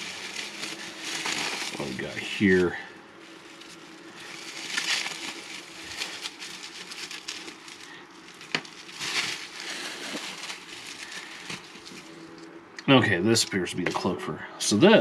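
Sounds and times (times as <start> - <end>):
packaging rustling and crinkling: 0.0 - 12.5.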